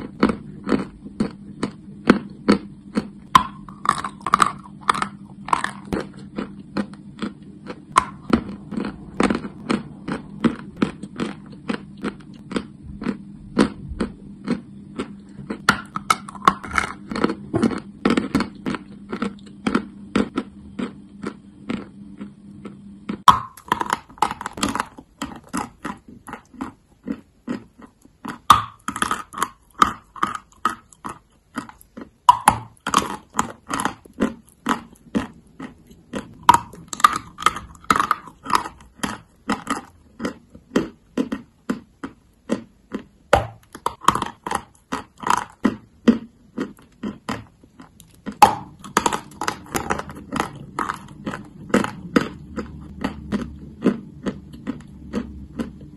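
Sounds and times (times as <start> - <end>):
chewing chalk crunches: 0.0 - 55.9.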